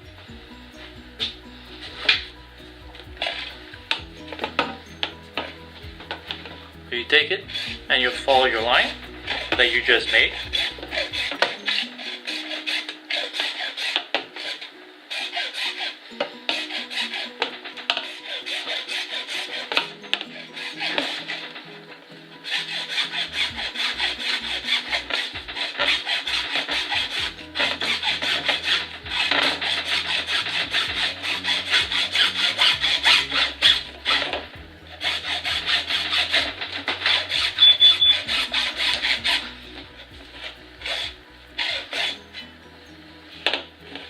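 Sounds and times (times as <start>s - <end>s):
hand saw cutting pipe: 0.7s - 42.5s, 43.4s - 44.0s.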